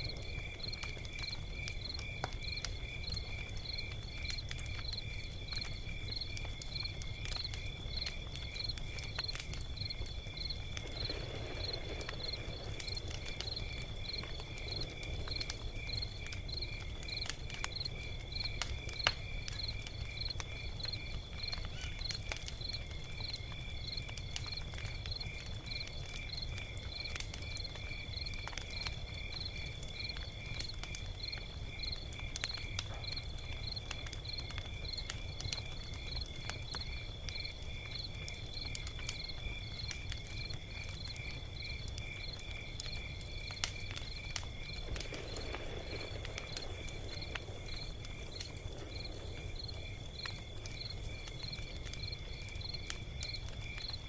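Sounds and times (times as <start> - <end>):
log fire crackling: 0.0 - 54.0.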